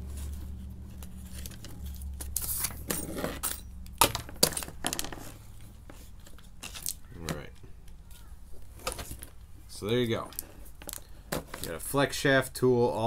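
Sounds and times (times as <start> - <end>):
small parts clicking and rattling: 0.2 - 9.5, 10.1 - 11.8.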